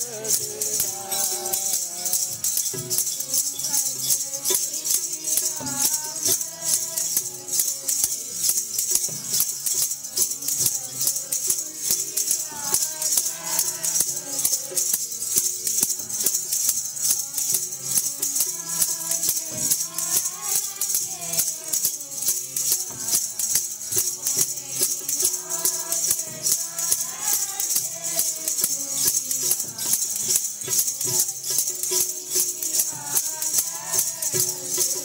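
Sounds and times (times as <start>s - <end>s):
person singing wavering melody: 0.0s - 9.5s, 10.1s - 35.0s
jingling percussion: 0.0s - 35.0s.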